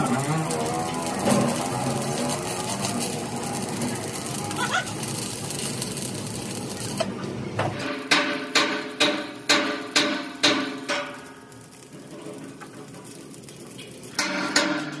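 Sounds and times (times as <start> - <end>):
arc welding hissing: 0.0 - 15.0.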